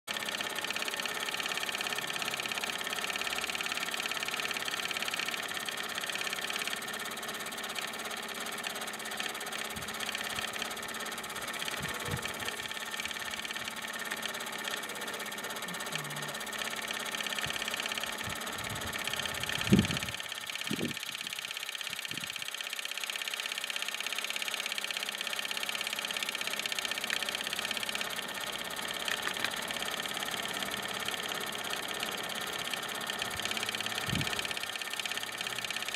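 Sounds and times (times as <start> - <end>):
toy steam engine running: 0.1 - 35.9.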